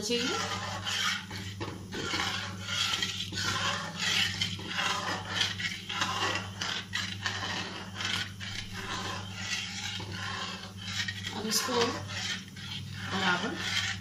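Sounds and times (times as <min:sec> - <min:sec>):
steady low hum: 0:00.0 - 0:14.0
whisk scraping a pan: 0:00.0 - 0:14.0.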